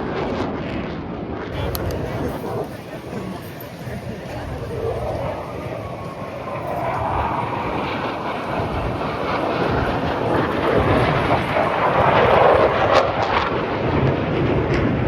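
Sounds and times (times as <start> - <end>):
jet engines flying past: 0.0 - 15.0
wind buffeting microphone: 1.5 - 15.0.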